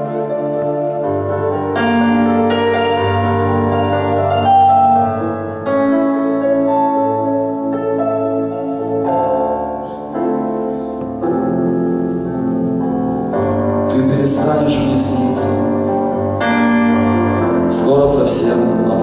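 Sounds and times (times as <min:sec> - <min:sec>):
electronic keyboard piano chords: 0:00.0 - 0:19.0.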